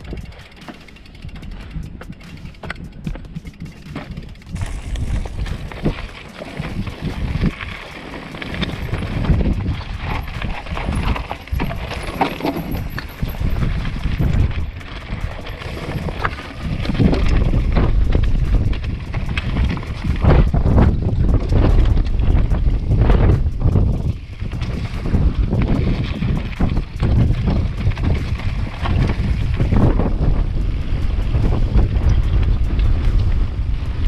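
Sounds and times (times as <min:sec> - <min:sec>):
bike clattering over stones: 0:00.0 - 0:33.7
wind buffeting microphone: 0:00.0 - 0:34.0.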